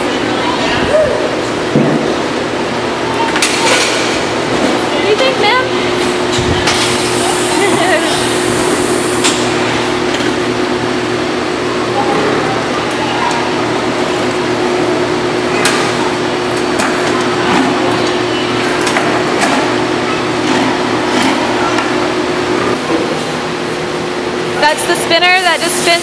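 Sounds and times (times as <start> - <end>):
machinery humming: 0.0 - 26.0.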